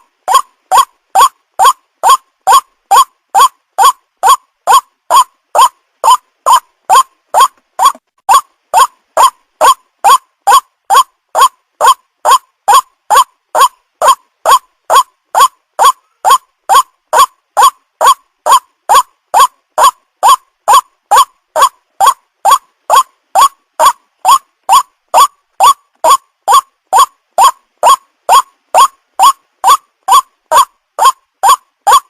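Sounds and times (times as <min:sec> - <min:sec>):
waterhen call: 0:00.0 - 0:32.0.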